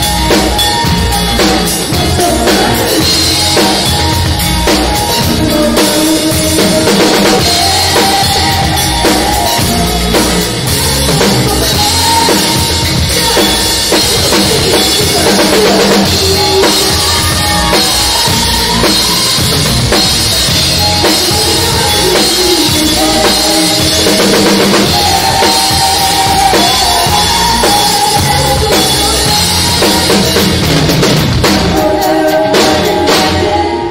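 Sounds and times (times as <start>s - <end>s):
drum kit groove: 0.0s - 33.9s
live band playing funk-pop: 0.0s - 33.9s.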